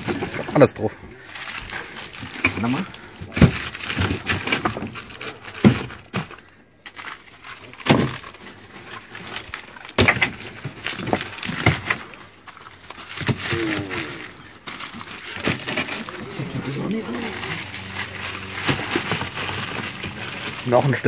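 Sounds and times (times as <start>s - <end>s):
frozen packs knocking: 0.0s - 21.0s
plastic bags rustling: 0.0s - 21.0s.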